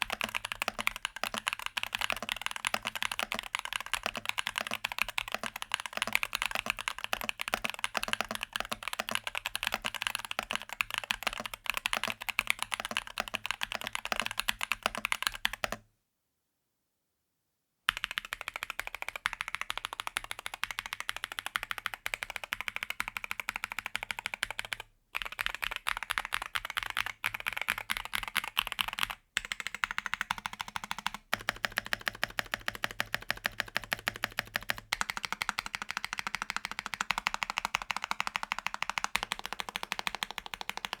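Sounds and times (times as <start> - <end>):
mechanical keyboard typing: 0.0 - 15.8, 17.9 - 41.0.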